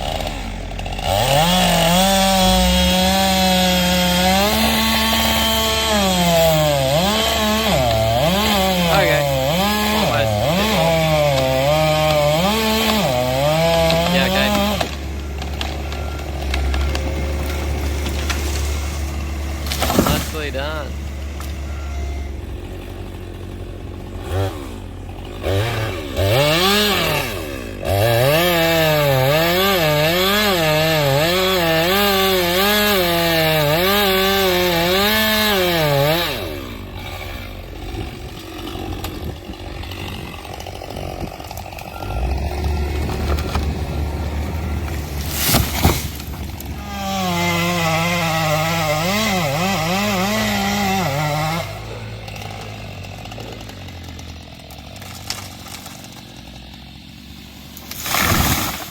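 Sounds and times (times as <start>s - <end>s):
chainsaw cutting wood: 0.0s - 58.9s
chainsaw idling: 0.0s - 58.9s.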